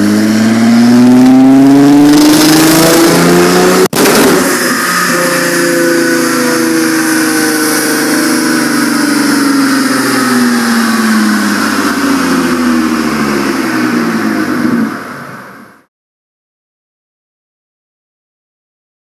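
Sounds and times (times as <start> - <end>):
car engine revving: 0.0 - 15.6.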